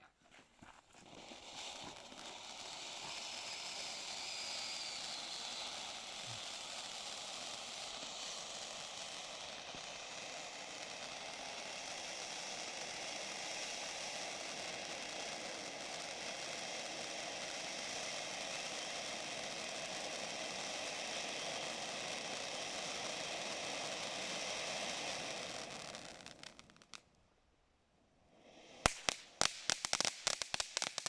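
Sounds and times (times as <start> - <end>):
firework fountain hissing: 0.9 - 27.1, 28.3 - 31.0.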